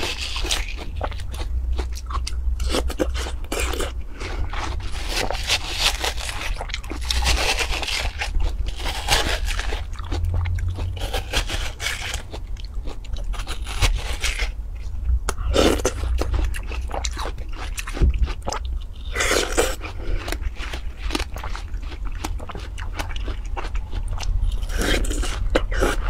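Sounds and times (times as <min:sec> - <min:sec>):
wet biting and chewing: 0:00.0 - 0:14.6, 0:15.3 - 0:26.0
steady low rumble: 0:00.0 - 0:26.0.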